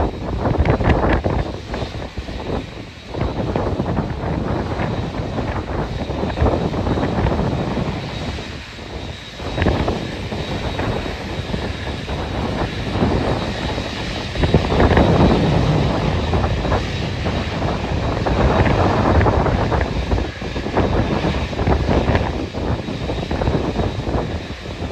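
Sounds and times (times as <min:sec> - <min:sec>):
jet engines running: 0:00.0 - 0:24.9
wind buffeting microphone: 0:00.0 - 0:24.9.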